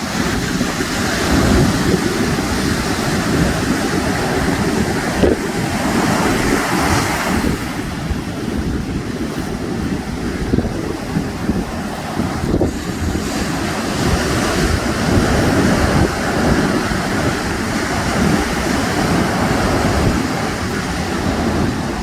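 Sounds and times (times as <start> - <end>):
surf washing onto shore: 0.0 - 22.0
wind buffeting microphone: 0.0 - 22.0.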